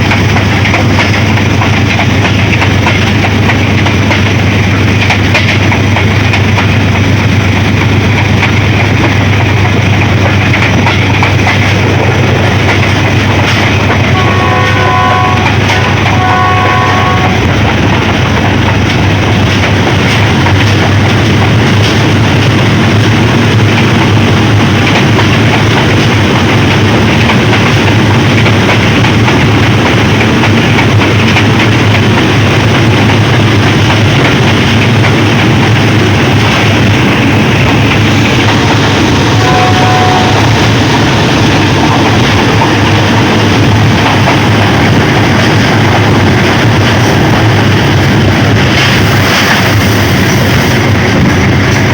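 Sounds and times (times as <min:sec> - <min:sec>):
passenger train rumbling: 0:00.0 - 0:51.9.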